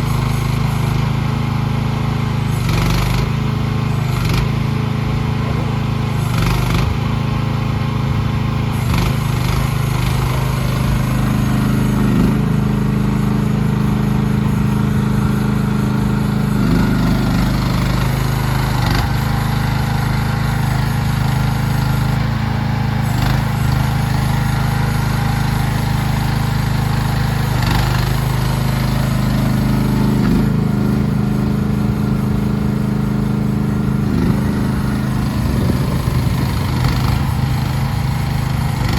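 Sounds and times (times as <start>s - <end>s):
mini excavator engine running: 0.0s - 38.9s.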